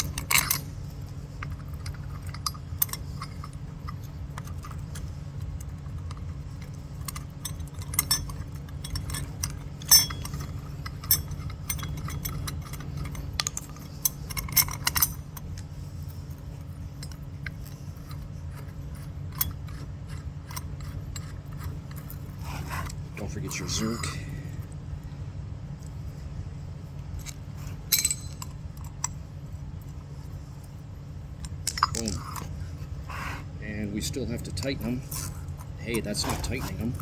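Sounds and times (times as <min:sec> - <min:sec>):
small metal parts clinking: 0:00.0 - 0:24.6, 0:27.2 - 0:30.8, 0:31.4 - 0:33.1, 0:33.9 - 0:37.0
steady low hum: 0:00.0 - 0:37.0.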